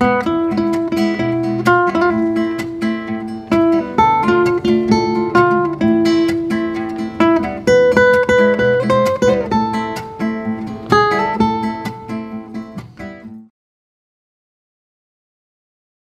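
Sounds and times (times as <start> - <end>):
acoustic guitar melody: 0.0 - 13.5.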